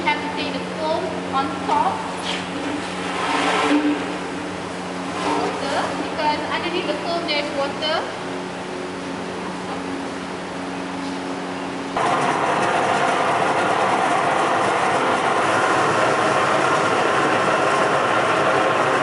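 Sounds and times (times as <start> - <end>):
concrete mixer running: 0.8 - 10.6, 11.8 - 19.0.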